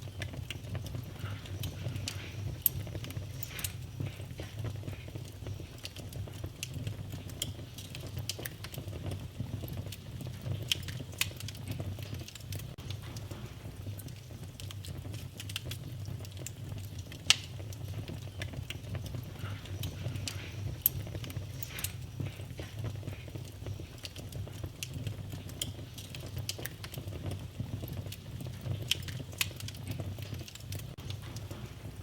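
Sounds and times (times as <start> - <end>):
fire pops: 0.0 - 32.0
low rumble of flames: 0.0 - 32.0
wood fire crackling: 0.0 - 32.0.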